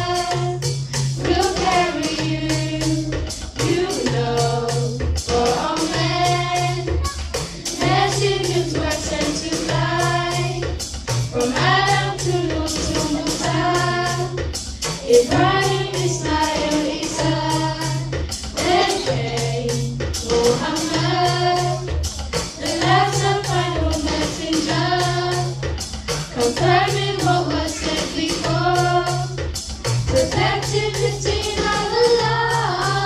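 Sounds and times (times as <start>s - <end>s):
regular low beat: 0.0s - 33.0s
girls' choir singing: 1.2s - 7.0s, 7.6s - 10.6s, 11.4s - 14.4s, 15.0s - 21.9s, 22.6s - 25.5s, 26.3s - 29.4s, 30.1s - 33.0s.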